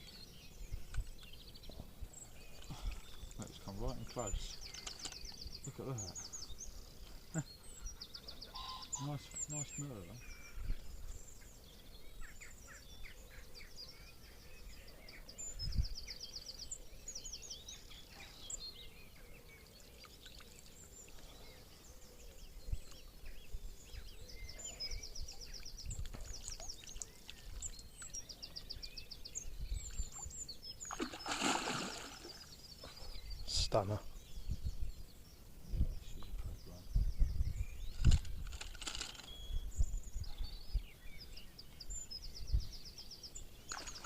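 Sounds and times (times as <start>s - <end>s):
songbirds singing: 0.0s - 44.0s.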